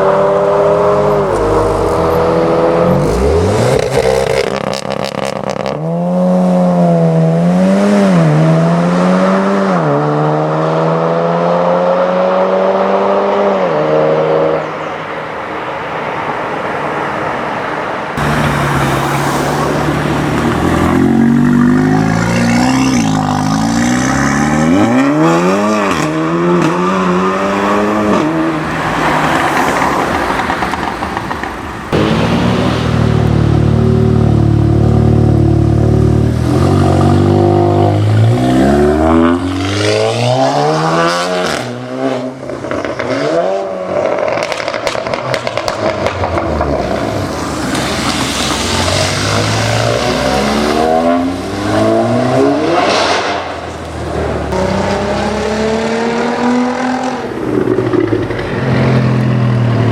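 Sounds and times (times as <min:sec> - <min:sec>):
car engine revving: 0:00.0 - 0:15.1, 0:18.0 - 0:59.9.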